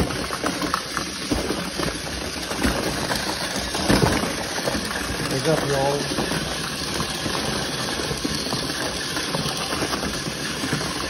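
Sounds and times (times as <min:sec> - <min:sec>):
toy car motors whirring: 0:00.0 - 0:11.0
toy cars knocking on cardboard: 0:00.0 - 0:11.0.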